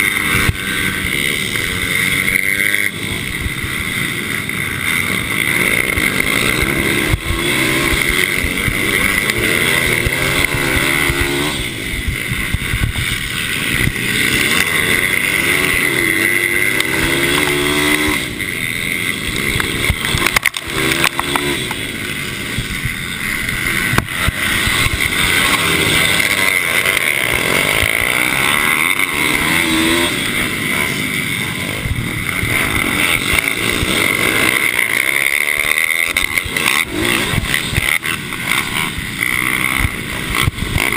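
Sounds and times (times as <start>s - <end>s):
mini motorcycle engines revving: 0.0s - 40.9s.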